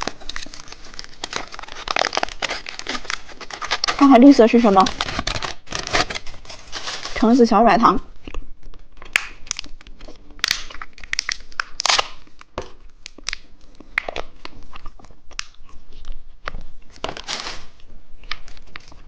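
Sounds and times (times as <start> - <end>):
plastic wrapper tearing and crinkling: 0.0 - 7.4, 8.2 - 19.0.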